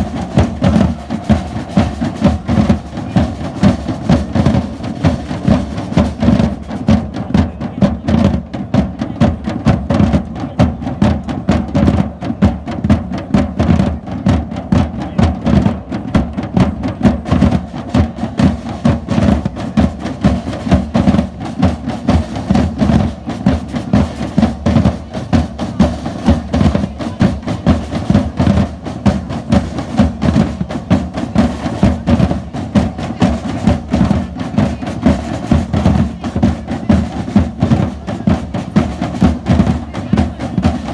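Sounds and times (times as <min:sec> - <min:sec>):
percussion band playing drums: 0:00.0 - 0:40.9.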